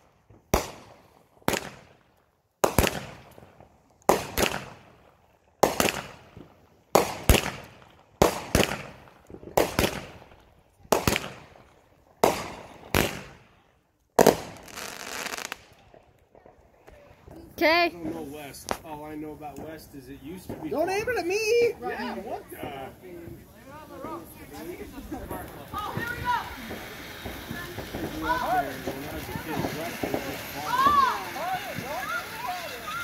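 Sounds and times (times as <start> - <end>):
fireworks bangs: 0.0 - 17.4, 18.0 - 33.0
fireworks crackling: 0.0 - 33.0.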